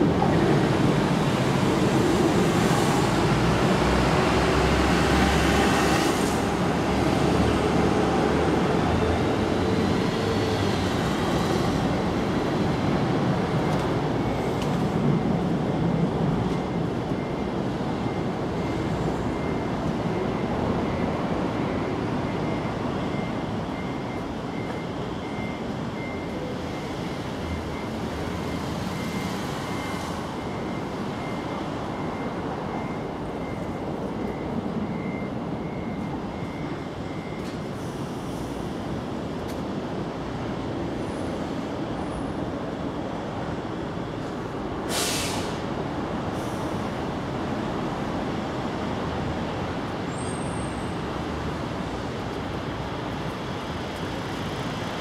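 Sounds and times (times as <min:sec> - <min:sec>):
distant road traffic rumble: 0:00.0 - 0:55.0.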